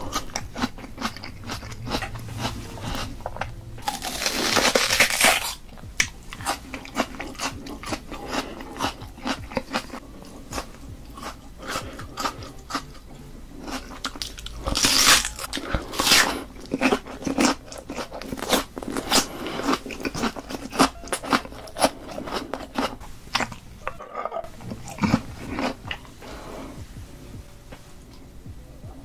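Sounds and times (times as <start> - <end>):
onion being bitten and chewed: 0.0 - 13.0, 13.6 - 26.1.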